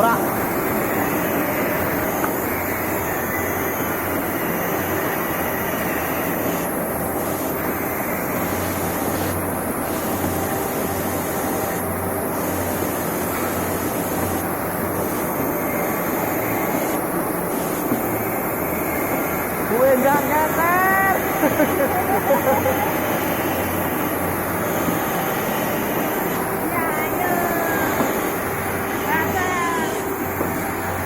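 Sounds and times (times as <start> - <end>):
machine humming in a cycle: 0.0 - 31.0.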